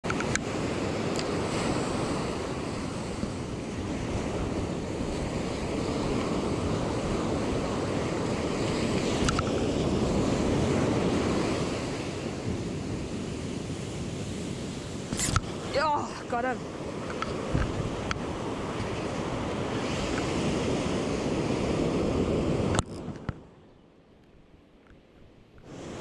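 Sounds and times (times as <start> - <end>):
wind buffeting microphone: 0.0 - 23.5
ocean surf breaking: 0.0 - 23.6, 25.6 - 26.0.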